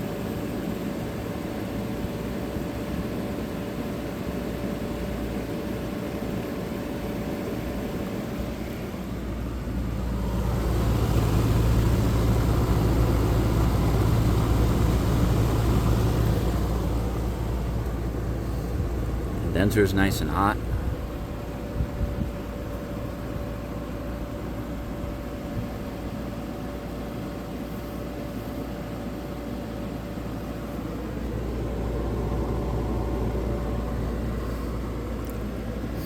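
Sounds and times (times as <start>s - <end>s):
window air conditioner running: 0.0s - 36.0s.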